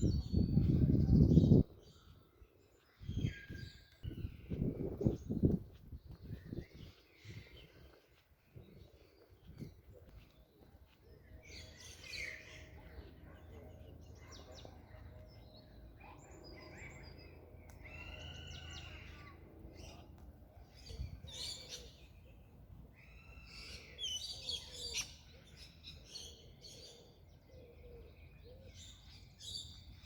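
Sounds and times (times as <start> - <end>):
birds singing and chirping: 0.0 - 30.0.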